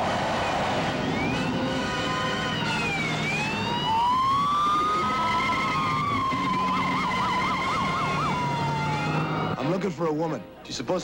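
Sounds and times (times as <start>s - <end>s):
car engine: 0.0s - 9.6s
police siren wailing: 0.0s - 9.8s
tyres skidding: 0.0s - 9.9s.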